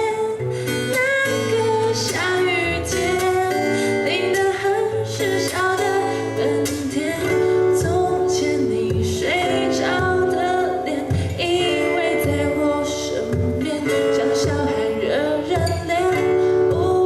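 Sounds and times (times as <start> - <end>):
guitars picked and strummed: 0.0 - 17.0
woman singing: 0.0 - 17.0.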